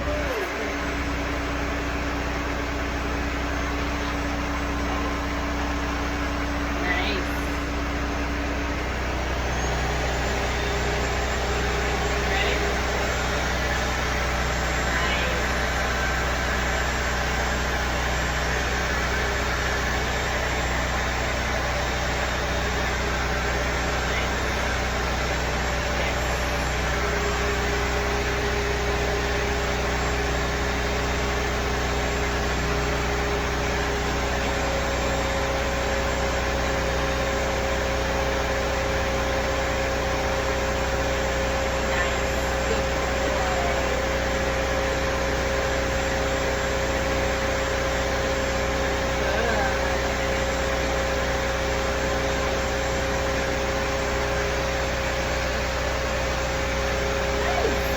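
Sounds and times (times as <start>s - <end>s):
blow dryer running: 0.0s - 57.9s.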